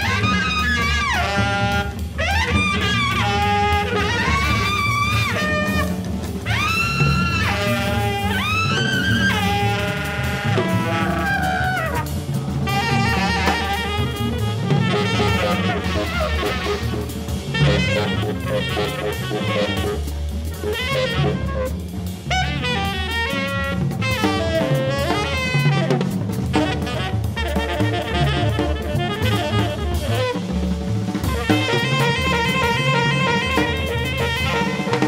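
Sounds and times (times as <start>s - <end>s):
bass: 0.0s - 35.0s
busy drums: 0.0s - 35.0s
tenor saxophone: 0.0s - 35.0s.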